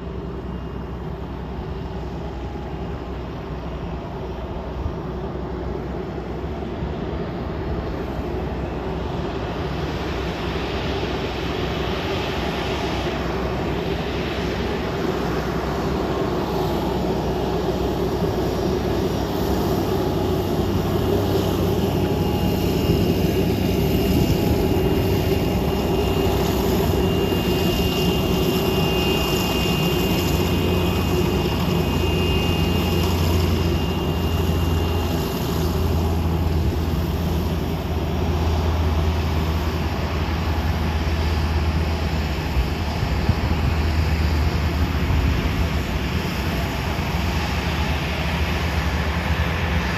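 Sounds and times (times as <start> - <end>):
jet engines humming: 0.0 - 49.9
thin high jet whine: 0.0 - 49.9.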